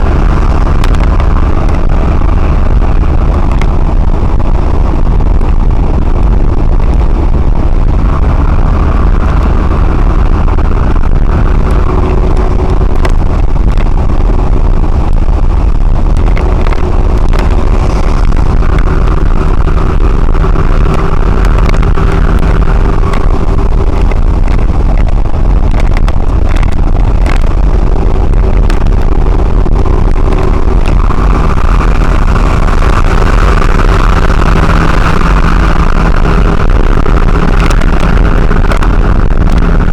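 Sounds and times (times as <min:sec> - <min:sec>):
faint engine tone: 0:00.0 - 0:39.9
lorry road and engine noise: 0:00.0 - 0:39.9.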